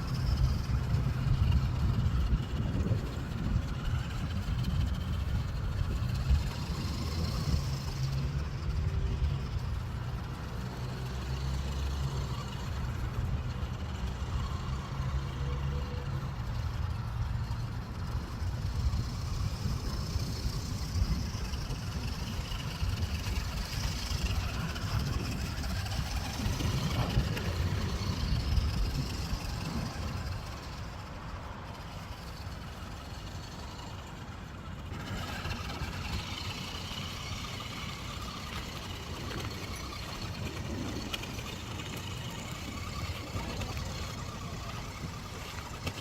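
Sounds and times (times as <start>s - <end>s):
toy truck motor whining: 0.0s - 46.0s.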